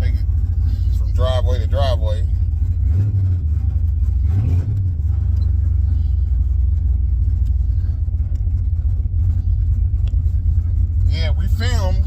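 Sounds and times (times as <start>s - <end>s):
engine exhaust rumble: 0.0s - 12.0s.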